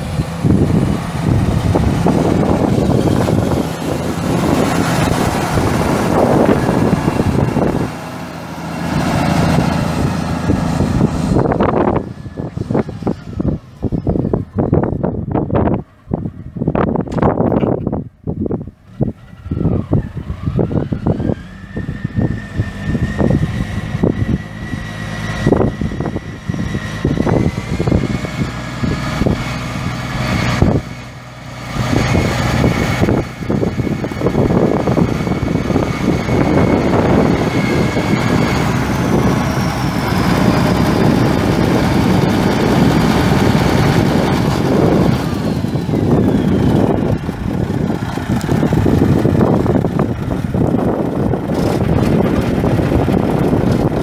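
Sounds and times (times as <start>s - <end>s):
steady high whine: 0.0s - 17.6s, 19.0s - 54.0s
tractor diesel engine running: 0.0s - 54.0s.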